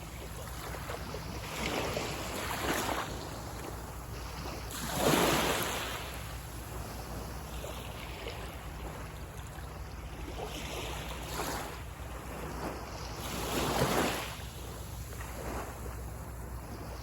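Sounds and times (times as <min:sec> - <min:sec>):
surf hiss: 0:00.0 - 0:17.0.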